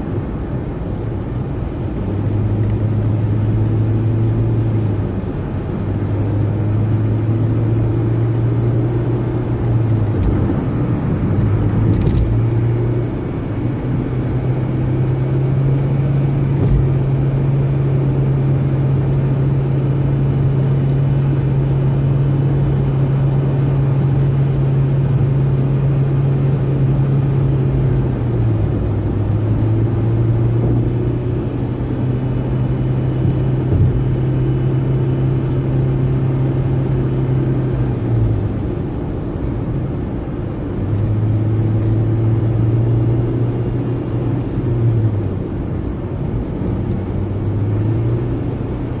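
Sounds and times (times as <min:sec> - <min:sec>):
car engine and tyre drone: 0:00.0 - 0:49.0.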